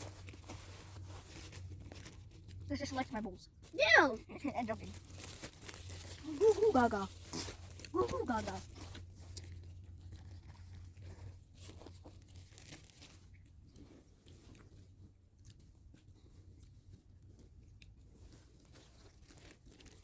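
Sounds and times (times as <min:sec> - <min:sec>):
faint rustles: 0:00.0 - 0:20.0.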